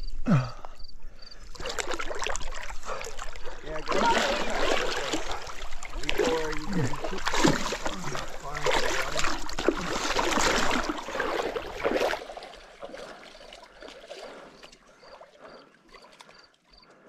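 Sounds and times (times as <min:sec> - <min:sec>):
water splashing and churning: 0:00.4 - 0:17.0.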